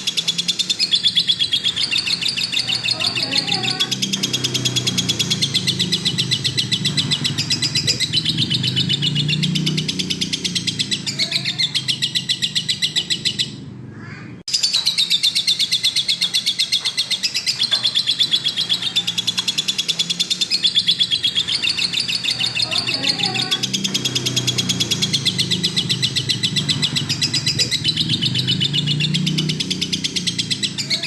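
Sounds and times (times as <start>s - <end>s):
lovebird chattering trill: 0.0s - 31.0s.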